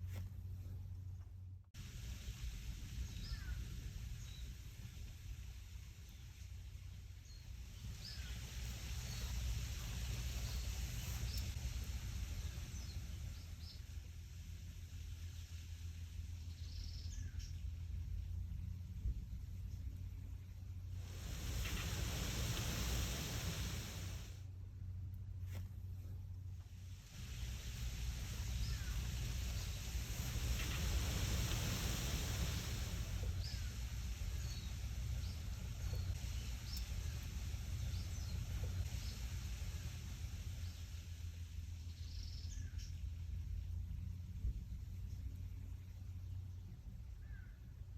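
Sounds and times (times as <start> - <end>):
wind rumble on microphone: 1.8 - 24.4, 26.8 - 47.9
wind rustling leaves: 1.8 - 24.6, 25.2 - 47.9.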